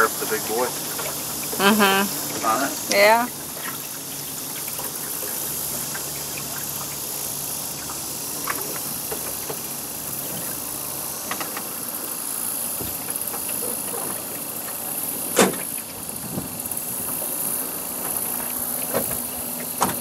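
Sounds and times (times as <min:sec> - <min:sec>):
boat motor humming: 0:00.0 - 0:20.0
hiss of water and wind: 0:00.0 - 0:20.0.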